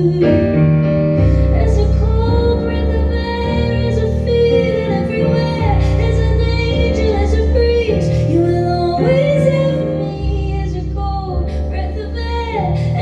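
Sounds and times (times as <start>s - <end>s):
woman singing: 0.0s - 0.6s, 1.2s - 13.0s
live band with bass and keyboard: 0.0s - 13.0s.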